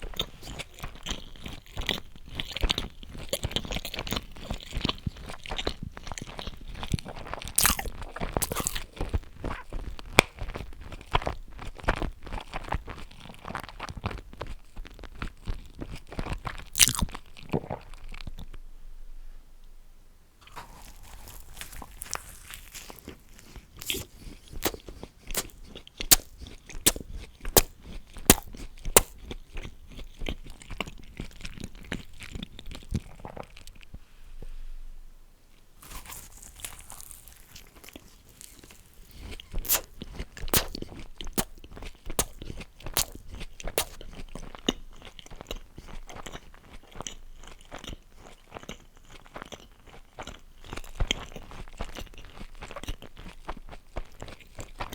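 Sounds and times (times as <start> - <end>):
chewing and crunching food: 0.0 - 18.7, 20.4 - 34.0, 35.5 - 54.9.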